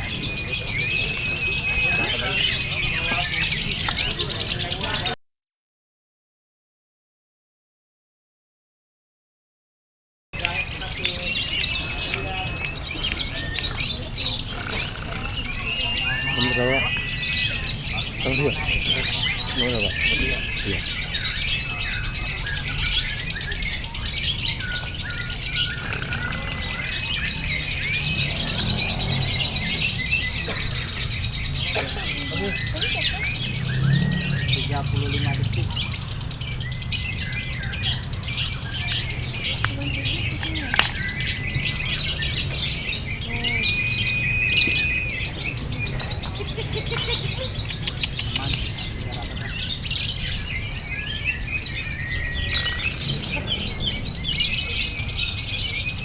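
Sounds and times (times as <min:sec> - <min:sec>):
birds whistling glides: 0:00.0 - 0:05.2, 0:10.4 - 0:56.0
lovebirds chattering: 0:00.0 - 0:05.2, 0:10.4 - 0:56.0.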